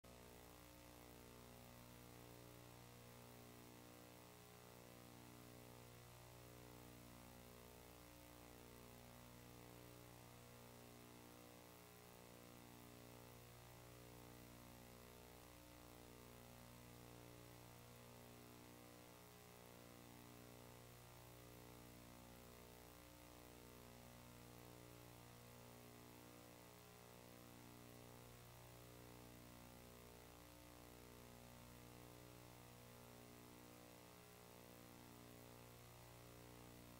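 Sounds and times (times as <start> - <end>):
faint electrical mains hum: 0.1 - 36.9.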